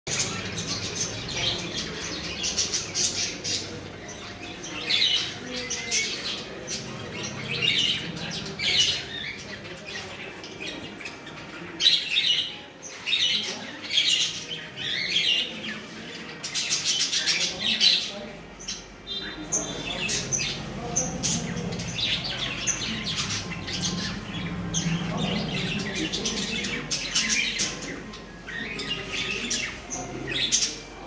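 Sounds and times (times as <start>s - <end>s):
birds chirping and squawking: 0.1s - 31.0s.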